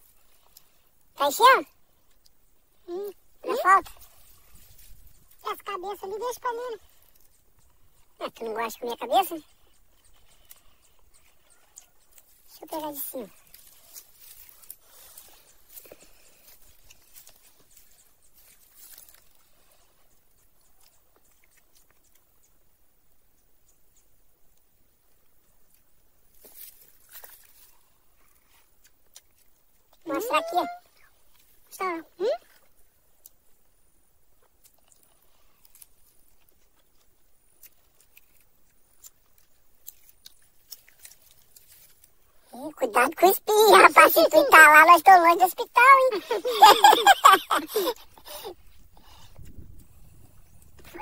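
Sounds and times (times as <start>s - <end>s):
chewing: 0.0s - 51.0s.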